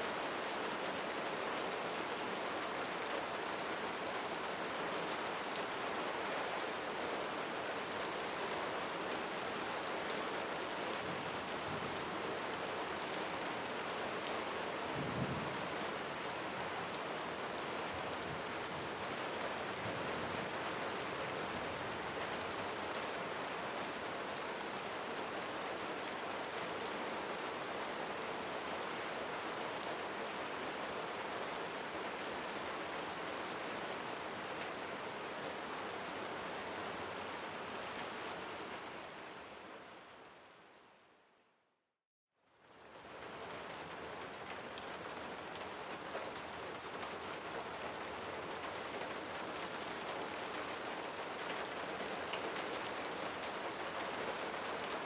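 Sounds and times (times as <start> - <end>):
rain falling on leaves: 0.0 - 41.4, 42.4 - 55.0.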